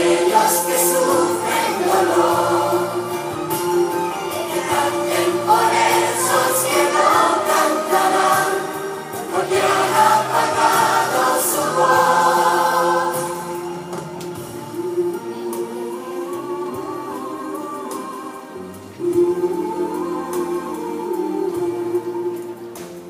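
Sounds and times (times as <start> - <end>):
children's choir singing: 0.0 - 23.0
instrumental accompaniment: 0.0 - 23.0.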